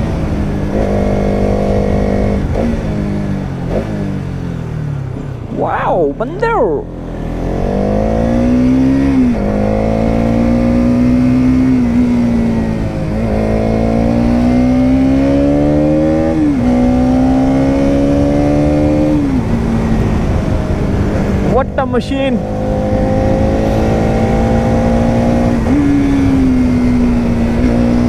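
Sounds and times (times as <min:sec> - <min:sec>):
motorcycle engine revving through gears: 0:00.0 - 0:05.6, 0:06.9 - 0:21.6, 0:22.4 - 0:28.0.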